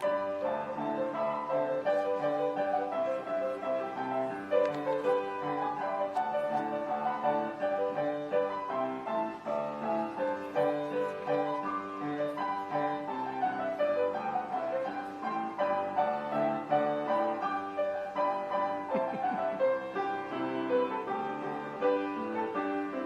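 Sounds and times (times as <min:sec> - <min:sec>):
slow piano melody with chords: 0:00.0 - 0:23.0.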